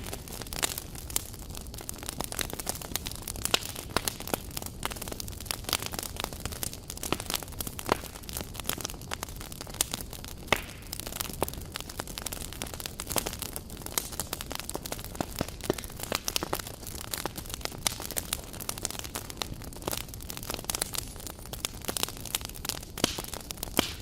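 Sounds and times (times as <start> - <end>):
campfire crackling and popping: 0.0 - 24.0
low rumble of flames: 0.0 - 24.0.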